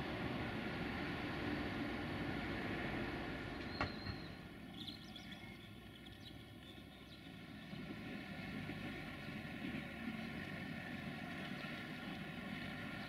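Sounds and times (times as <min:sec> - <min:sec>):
train engine hum: 0:00.0 - 0:13.0.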